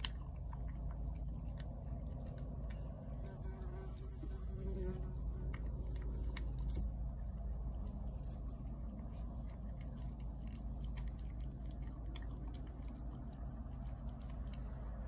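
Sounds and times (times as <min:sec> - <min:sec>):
cat chewing and lapping: 0:00.0 - 0:15.0
steady low hum: 0:00.0 - 0:15.0.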